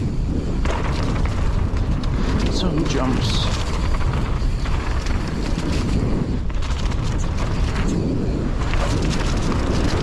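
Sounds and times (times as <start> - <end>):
bike rattling and knocking: 0.0 - 10.0
wind rumbling on microphone: 0.0 - 10.0.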